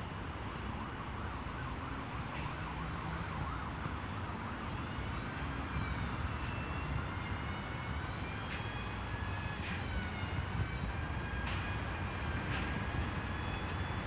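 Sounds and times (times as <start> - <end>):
city traffic rumble: 0.0 - 14.0
distant siren wailing: 0.5 - 14.0.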